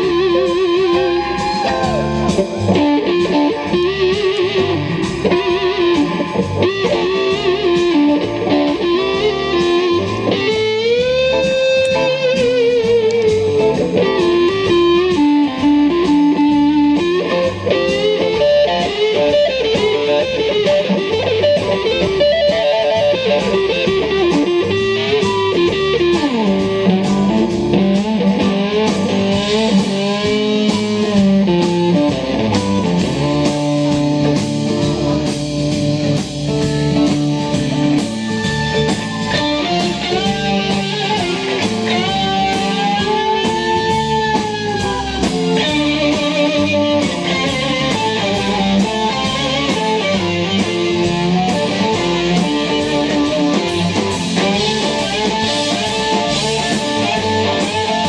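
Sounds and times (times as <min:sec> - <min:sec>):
drums: 0:00.0 - 0:58.0
electric guitar lead with bends: 0:00.0 - 0:58.0.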